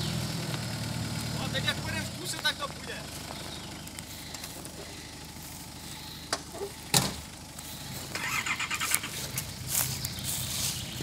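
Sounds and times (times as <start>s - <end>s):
vehicle engine running low: 0.0s - 11.0s.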